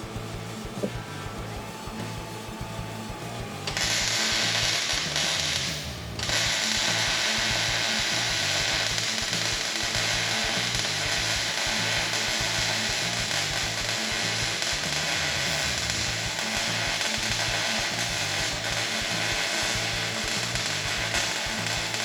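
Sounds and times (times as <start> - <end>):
background music: 0.0 - 22.0
power tool hissing: 0.0 - 22.0.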